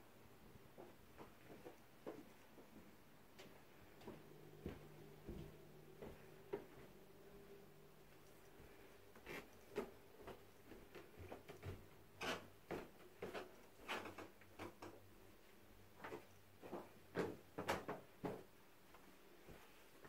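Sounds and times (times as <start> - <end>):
footsteps on carpeted stairs: 0.7 - 20.0.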